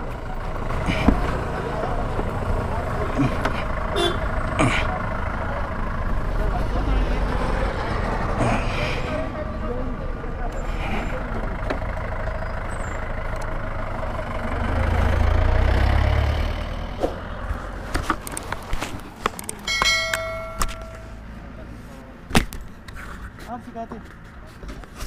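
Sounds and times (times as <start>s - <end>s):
motor vehicle rumbling past: 0.0s - 23.4s.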